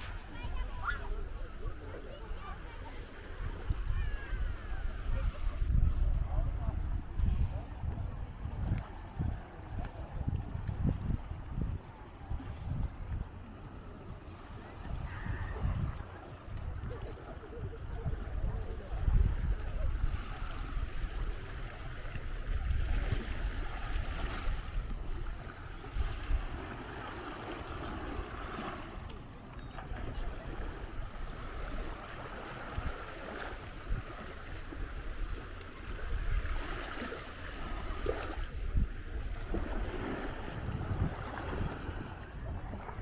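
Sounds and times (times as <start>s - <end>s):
waves washing onto beach: 0.0s - 43.0s
wind rumbling on microphone: 0.0s - 43.0s.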